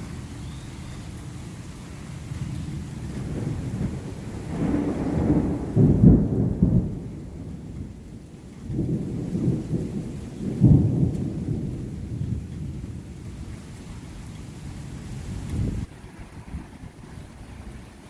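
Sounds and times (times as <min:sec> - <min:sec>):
rain: 0:00.0 - 0:18.0
thunder rumbling: 0:00.0 - 0:18.0.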